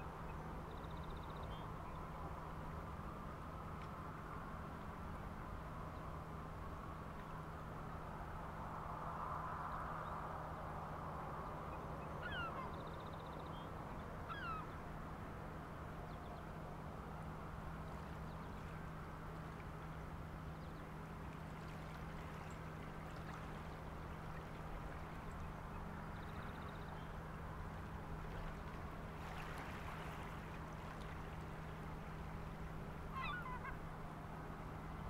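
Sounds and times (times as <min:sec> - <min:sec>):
faint background wash: 0:00.0 - 0:35.0.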